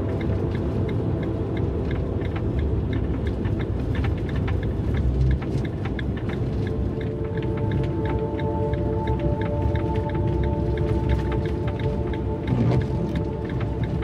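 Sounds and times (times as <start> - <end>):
faint irregular ticking: 0.0 - 14.0
van engine and tyres rumbling: 0.0 - 14.0.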